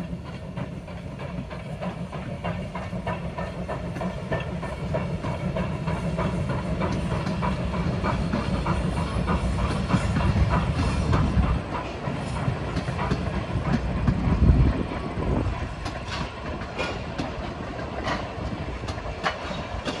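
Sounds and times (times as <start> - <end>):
steam hissing: 0.0 - 20.0
steam locomotive exhaust chuffing: 0.0 - 20.0.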